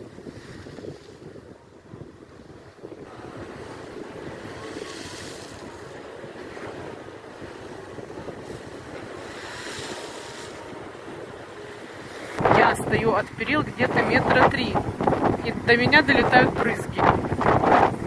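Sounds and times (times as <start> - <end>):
surf breaking and rushing: 0.0 - 18.0
wind buffeting microphone: 0.0 - 18.0.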